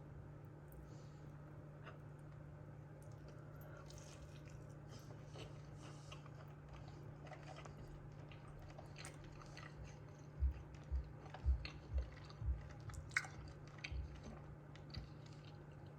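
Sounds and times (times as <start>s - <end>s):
person chewing food: 1.7s - 15.9s.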